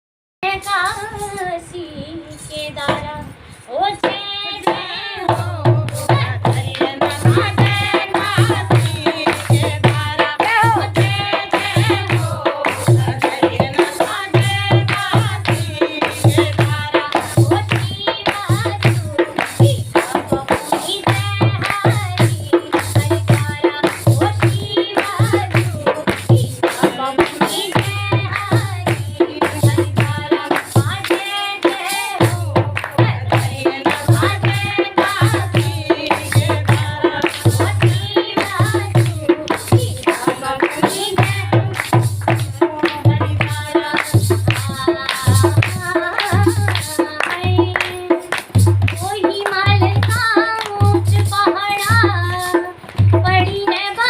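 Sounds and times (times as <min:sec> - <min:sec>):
woman singing: 0:00.4 - 0:54.0
steady drum beat: 0:04.0 - 0:54.0.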